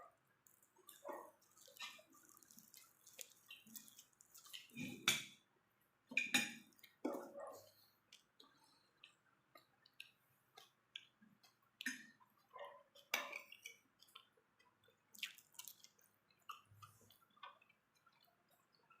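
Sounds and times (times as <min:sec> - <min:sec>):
person chewing with wet smacks: 0:00.1 - 0:05.4, 0:06.1 - 0:19.0.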